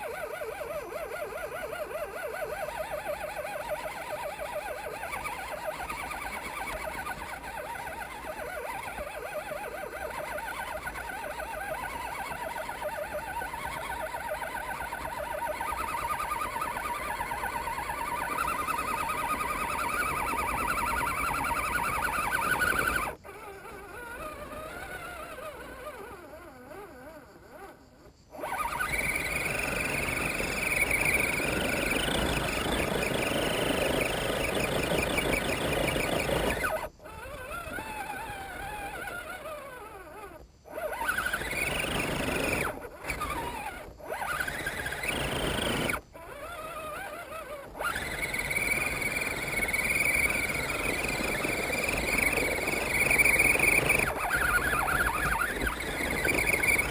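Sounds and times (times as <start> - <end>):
electric motor and gearbox whining: 0.0 - 56.9.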